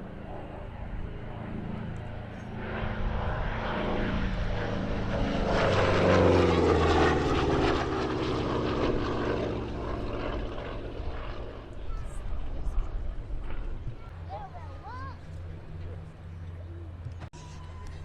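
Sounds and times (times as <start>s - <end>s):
propeller plane flying past: 0.0s - 18.0s.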